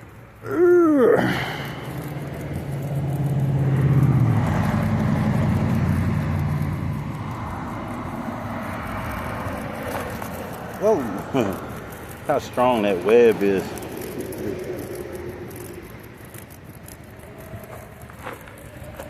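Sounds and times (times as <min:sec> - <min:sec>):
motor vehicle passing: 0:00.0 - 0:19.0.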